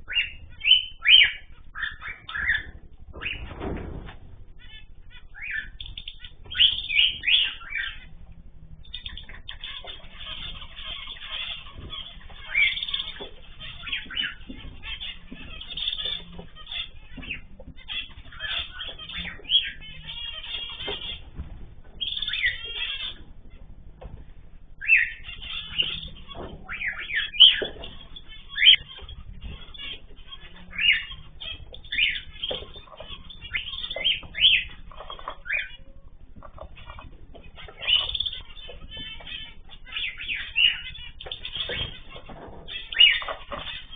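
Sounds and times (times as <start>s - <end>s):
cage birds chirping: 0.0s - 43.9s
sharp bird calls: 0.0s - 43.9s.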